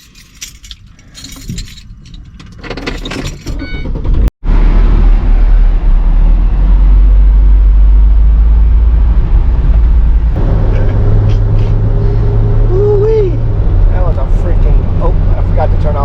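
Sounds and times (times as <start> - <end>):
motor vehicle engine rumbling: 0.0 - 16.0.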